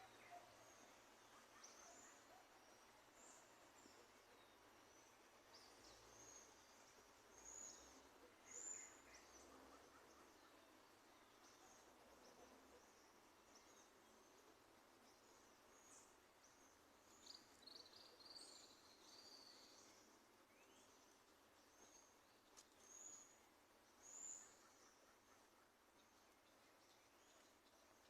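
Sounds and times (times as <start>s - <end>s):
background hiss: 0.0s - 28.0s
small birds chirping: 0.0s - 28.0s.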